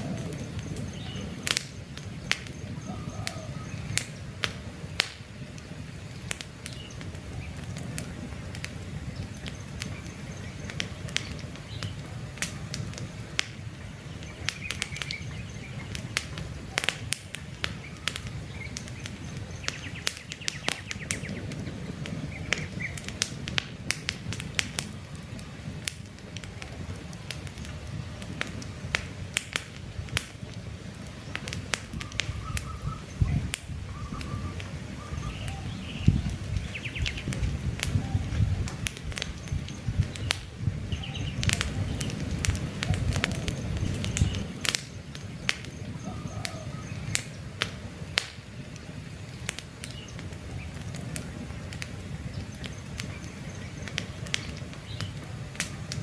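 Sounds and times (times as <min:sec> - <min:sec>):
small birds chirping: 0:00.0 - 0:23.6, 0:24.3 - 0:56.0
campfire crackling and popping: 0:00.0 - 0:56.0.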